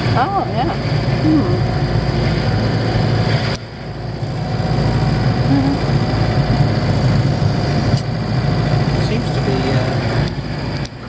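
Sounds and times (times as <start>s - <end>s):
van engine running: 0.0s - 11.0s.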